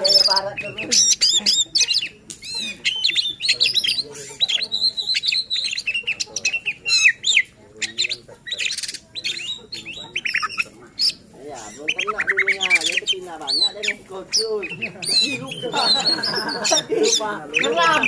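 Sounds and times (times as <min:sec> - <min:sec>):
bird singing whistles and chirps: 0:00.0 - 0:18.0.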